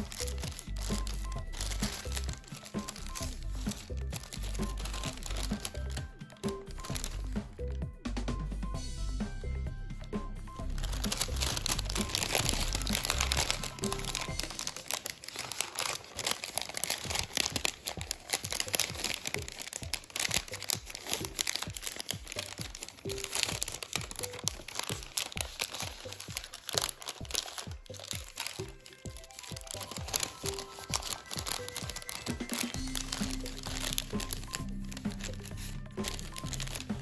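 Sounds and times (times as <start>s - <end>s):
paper crinkling and crackling: 0.0s - 7.8s, 10.6s - 37.0s
background music: 0.0s - 37.0s.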